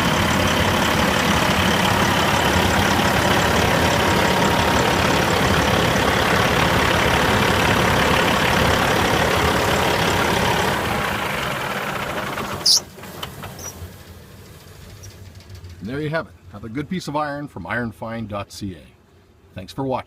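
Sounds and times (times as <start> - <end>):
diesel truck engine idling: 0.0 - 16.7.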